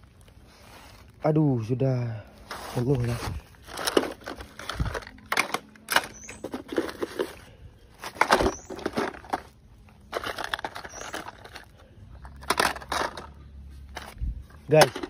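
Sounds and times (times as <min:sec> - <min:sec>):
plastic toy vehicles clattering: 0:02.5 - 0:15.0.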